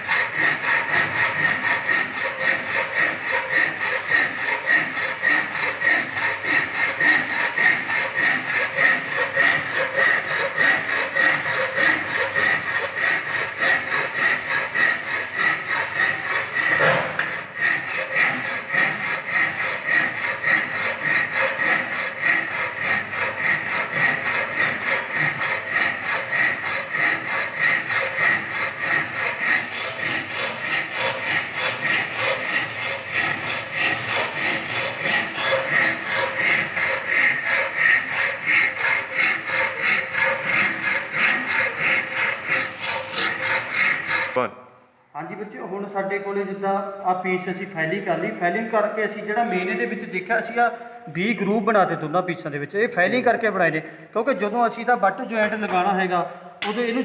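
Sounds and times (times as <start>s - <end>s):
file scraping steel: 0.0s - 44.4s, 48.0s - 50.8s.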